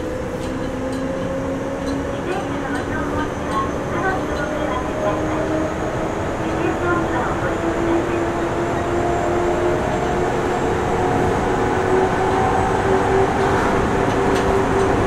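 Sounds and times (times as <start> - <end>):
train drive humming: 0.0 - 15.0
train wheels rumbling on rails: 0.0 - 15.0.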